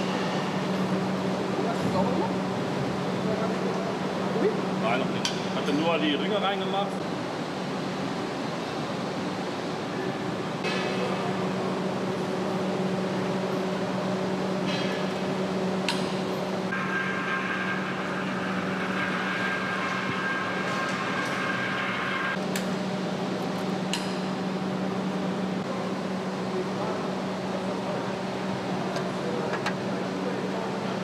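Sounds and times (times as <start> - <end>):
higher steady whine: 0.0 - 28.7
machinery hum: 0.0 - 31.0.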